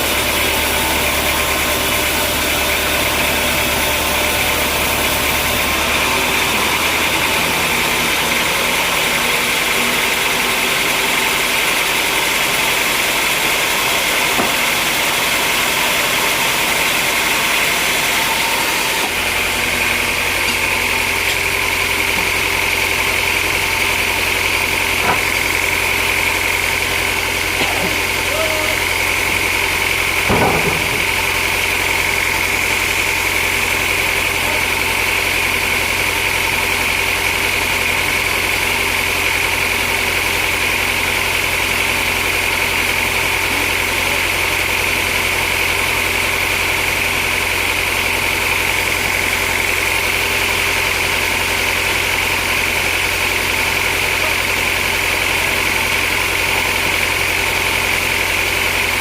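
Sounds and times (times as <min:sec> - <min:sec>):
sawmill machinery whine: 0:00.0 - 0:59.0.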